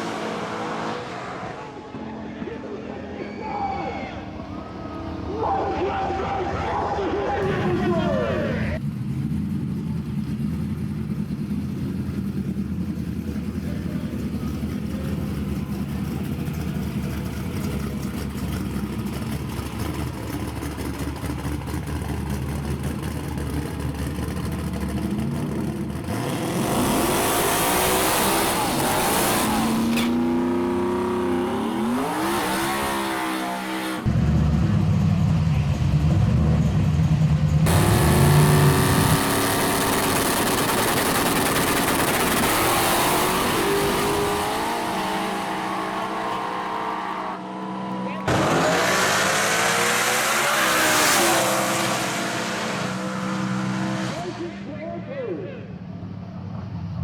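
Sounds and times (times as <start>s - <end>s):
racing car engines accelerating: 0.0s - 57.0s.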